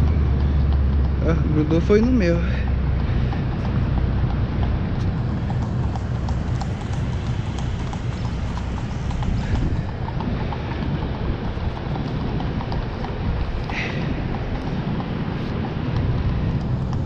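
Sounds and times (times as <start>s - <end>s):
low rumble: 0.0s - 17.0s
rope clicking against concrete: 3.0s - 17.0s.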